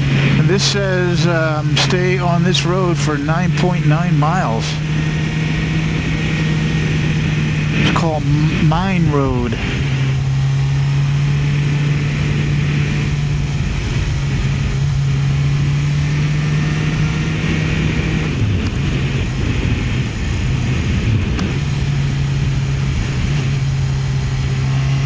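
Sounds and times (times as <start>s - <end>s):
motorcycle engine cruising: 0.0s - 25.0s
wind rush: 0.0s - 25.0s.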